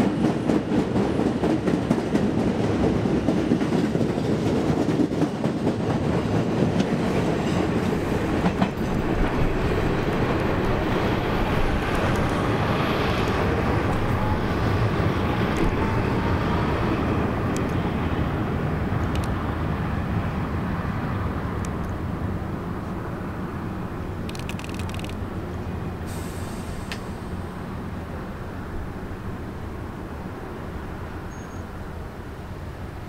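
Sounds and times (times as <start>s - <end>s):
train wheels on rail: 0.0s - 33.0s.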